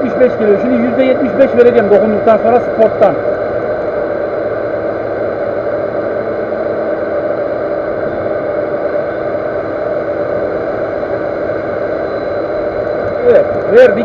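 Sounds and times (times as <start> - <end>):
lathe motor humming: 0.0 - 14.0.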